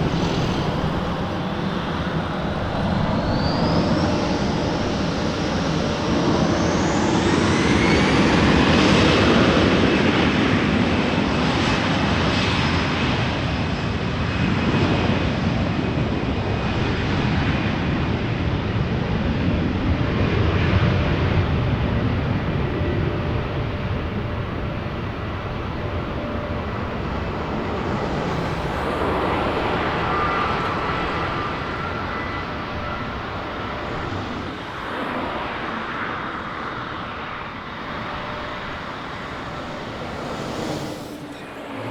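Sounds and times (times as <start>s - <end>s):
airliner engines roaring past: 0.0s - 41.9s.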